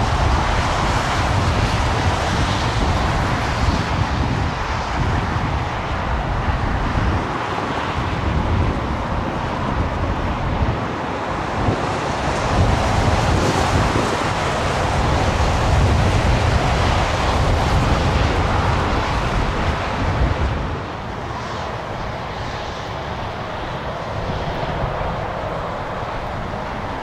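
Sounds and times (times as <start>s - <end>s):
jet engines rumbling: 0.0s - 27.0s
wind buffeting microphone: 0.0s - 27.0s.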